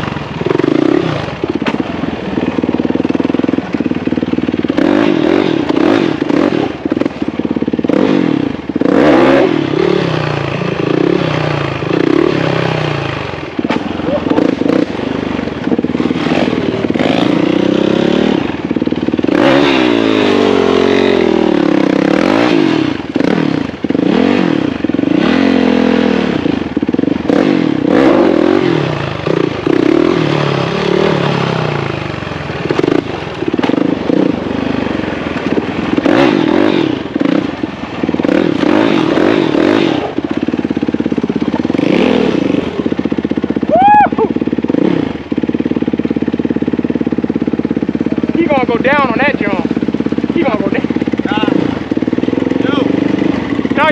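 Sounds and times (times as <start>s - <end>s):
motorcycle engines revving: 0.0s - 53.9s.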